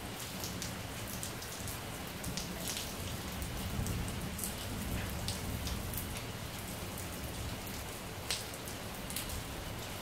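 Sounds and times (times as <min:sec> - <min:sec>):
close raindrop splashes: 0:00.0 - 0:10.0
heavy rain on tiles: 0:00.0 - 0:10.0.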